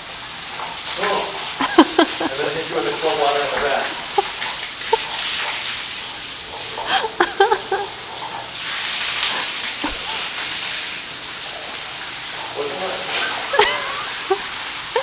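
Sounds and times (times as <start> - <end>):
water pouring from shower head: 0.0 - 15.0.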